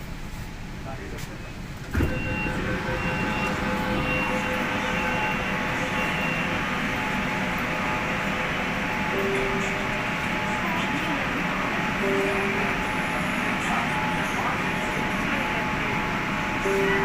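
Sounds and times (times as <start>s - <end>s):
metro train rumbling: 0.0s - 17.0s
train whining tones: 1.9s - 17.0s.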